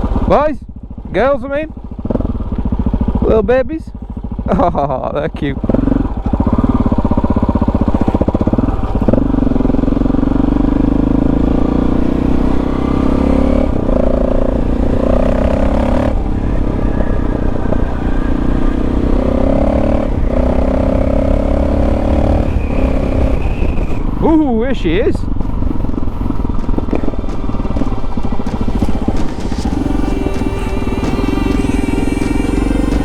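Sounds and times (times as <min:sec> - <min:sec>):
motorcycle engine pulling: 0:00.0 - 0:33.0.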